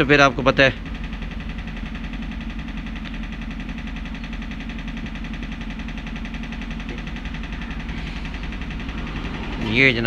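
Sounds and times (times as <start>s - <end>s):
low engine drone: 0.0s - 10.0s.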